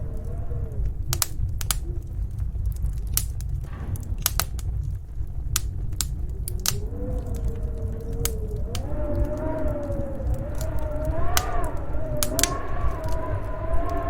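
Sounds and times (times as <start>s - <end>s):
log fire crackling: 0.0s - 14.0s
low rumble of wind: 0.0s - 14.0s
wavering wind howl: 0.0s - 14.0s.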